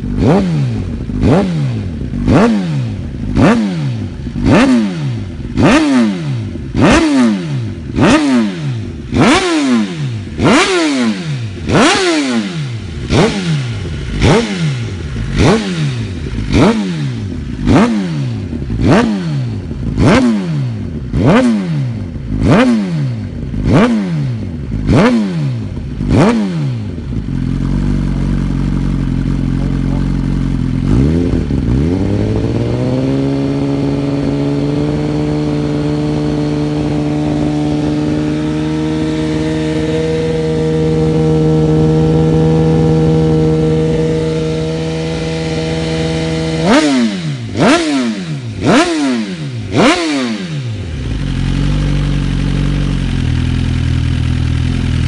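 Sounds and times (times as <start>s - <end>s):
motorcycle engine idling: 0.0s - 55.0s
motorcycle engine revving: 0.0s - 55.0s.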